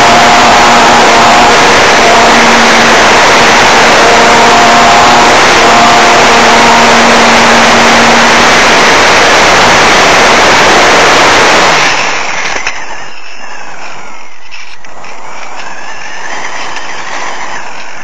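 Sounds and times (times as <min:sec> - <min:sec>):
electric motor and propeller hum: 0:00.0 - 0:18.0.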